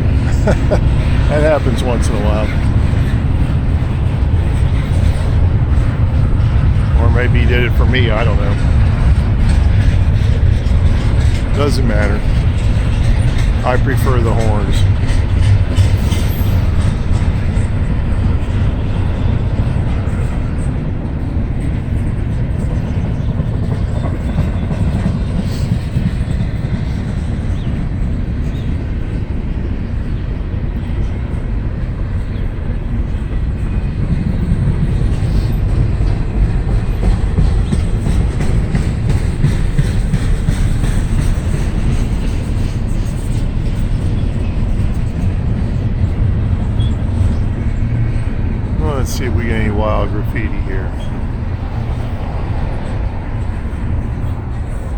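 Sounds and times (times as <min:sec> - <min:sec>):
train wheels rumbling on rail: 0:00.0 - 0:54.9
wheels clacking over track: 0:00.0 - 0:54.9.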